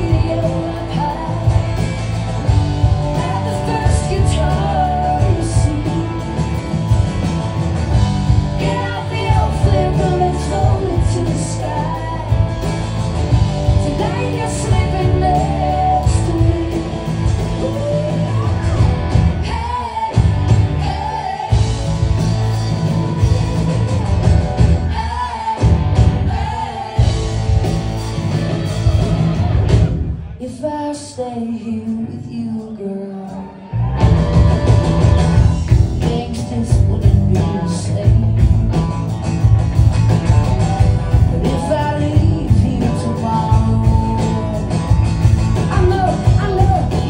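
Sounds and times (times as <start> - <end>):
woman singing lead: 0.0 - 7.2, 7.9 - 39.1, 40.5 - 47.0
live rock band playing: 0.0 - 47.0.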